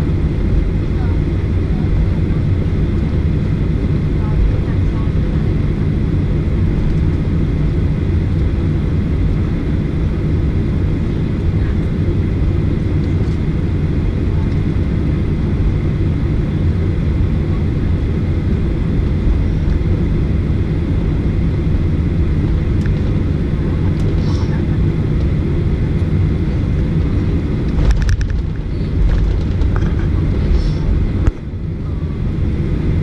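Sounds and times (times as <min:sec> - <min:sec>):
jet cabin rumble: 0:00.0 - 0:33.0.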